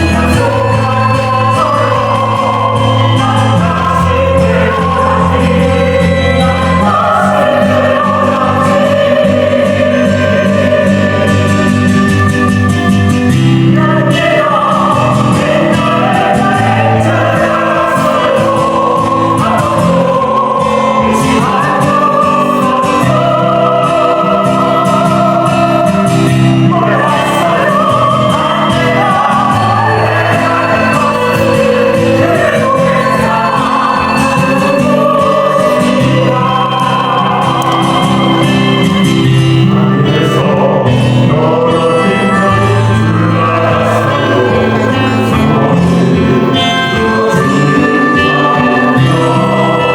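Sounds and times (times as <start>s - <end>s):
instrumental accompaniment: 0.0s - 49.9s
vocal ensemble singing in harmony: 0.0s - 49.9s.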